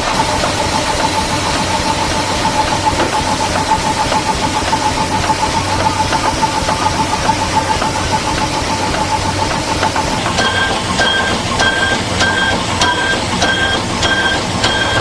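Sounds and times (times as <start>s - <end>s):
steam engine hissing and pulsing: 0.0s - 15.0s.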